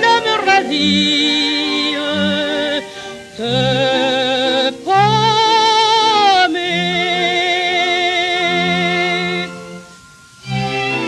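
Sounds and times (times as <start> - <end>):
orchestral accompaniment: 0.0 - 11.0
woman singing with vibrato: 0.0 - 11.0.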